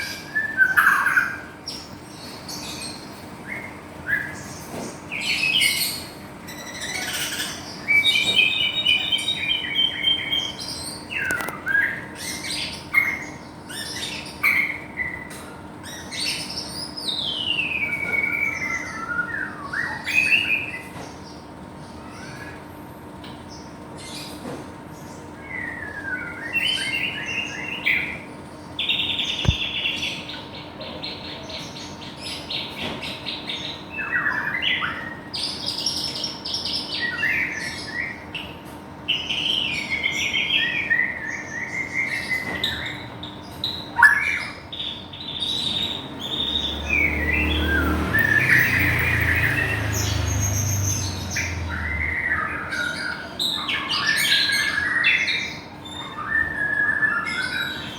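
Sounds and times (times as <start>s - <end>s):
bird singing varied song: 0.0s - 22.7s, 23.3s - 57.9s.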